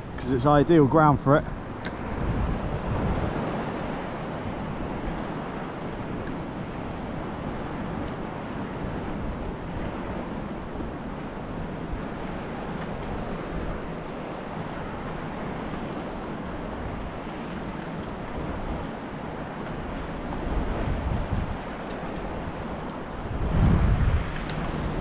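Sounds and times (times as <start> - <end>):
choppy sea water: 0.0 - 25.0
wind buffeting microphone: 0.0 - 25.0.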